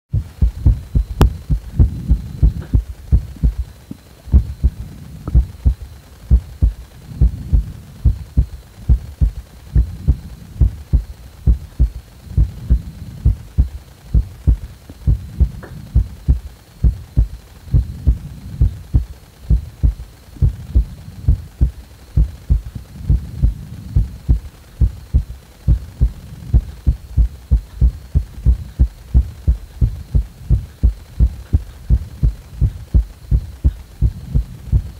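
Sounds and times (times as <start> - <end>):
heartbeat thumps: 0.1 - 34.9.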